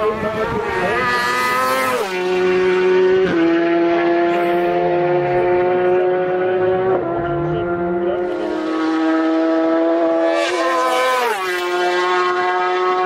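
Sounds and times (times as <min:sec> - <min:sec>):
motorcycle passing at speed: 0:00.0 - 0:13.0.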